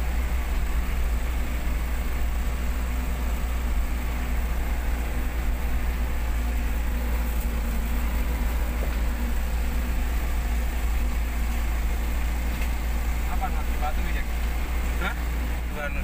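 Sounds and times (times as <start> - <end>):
road noise on gravel: 0.0 - 16.0
vehicle engine rumble: 0.0 - 16.0.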